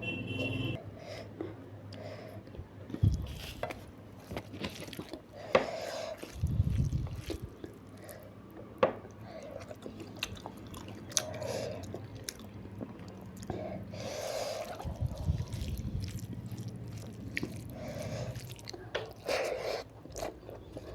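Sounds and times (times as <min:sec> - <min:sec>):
wet chewing: 0:01.9 - 0:20.9.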